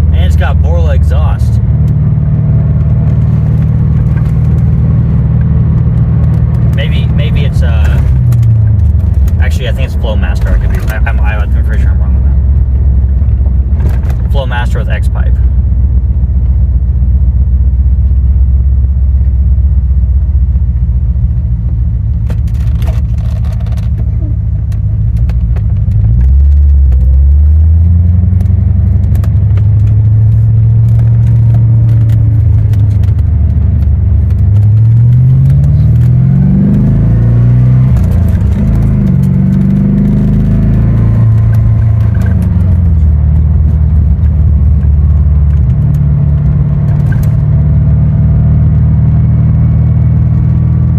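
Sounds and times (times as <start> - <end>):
car engine accelerating and shifting: 0.0 - 50.9.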